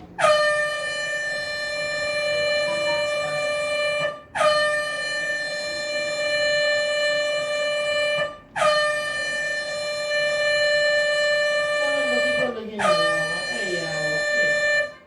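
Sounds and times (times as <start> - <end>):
air horn blasts: 0.0 - 15.0.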